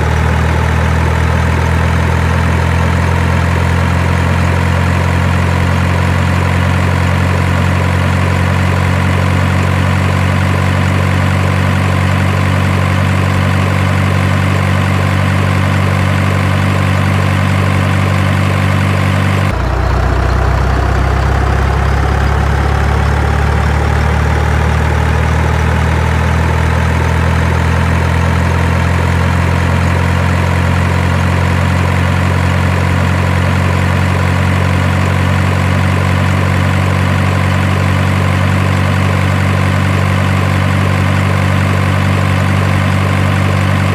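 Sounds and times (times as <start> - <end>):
heavy truck engine idling: 0.0 - 43.9.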